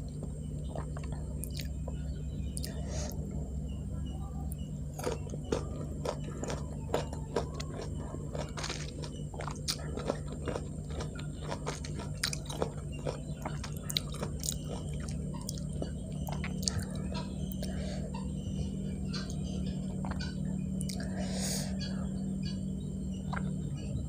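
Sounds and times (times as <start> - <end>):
chewing crisp fruit: 0.0 - 24.0.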